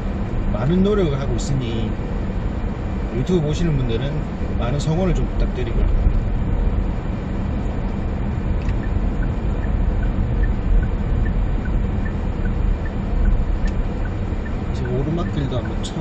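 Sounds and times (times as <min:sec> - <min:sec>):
diesel engine droning: 0:00.0 - 0:16.0
road noise: 0:00.0 - 0:16.0.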